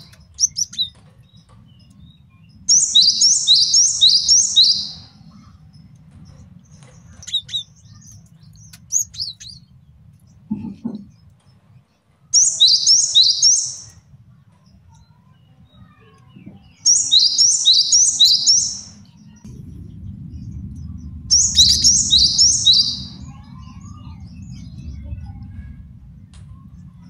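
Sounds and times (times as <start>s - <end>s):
soft high bird calls: 0.0s - 27.0s.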